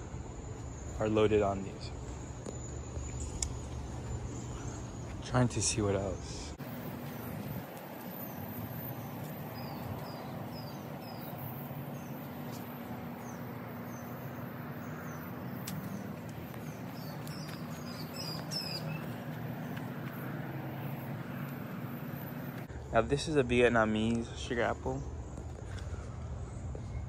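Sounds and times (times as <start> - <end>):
small bird chirping: 0.4 - 22.7.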